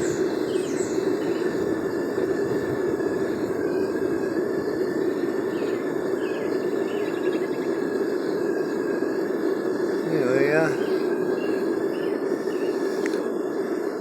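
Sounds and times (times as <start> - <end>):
faint high whine: 0.0 - 14.0
propane burner rushing: 0.0 - 14.0.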